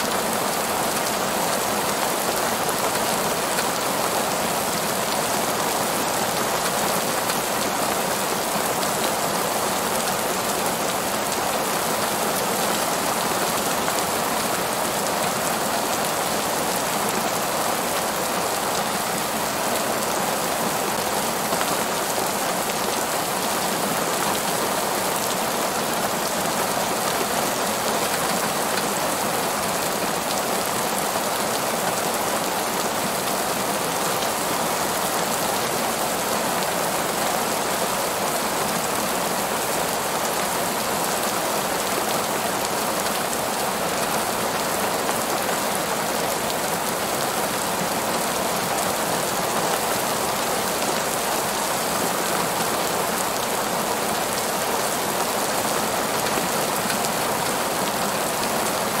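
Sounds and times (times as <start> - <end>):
heavy rain on pavement: 0.0 - 59.0.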